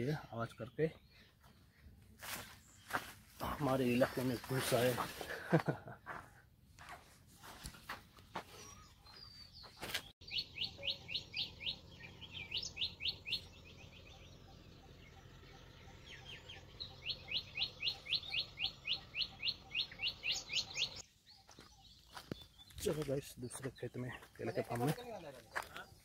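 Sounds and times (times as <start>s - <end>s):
birds calling: 0.0s - 6.4s, 7.4s - 26.0s.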